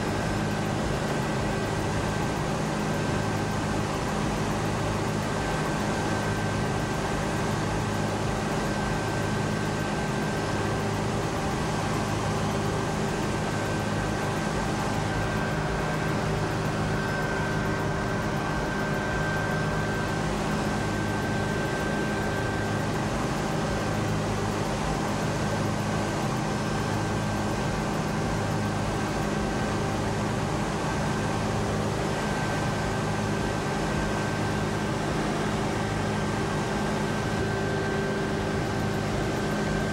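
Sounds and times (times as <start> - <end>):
faint steady whine: 0.0 - 39.9
mechanical drone with low hums: 0.0 - 39.9.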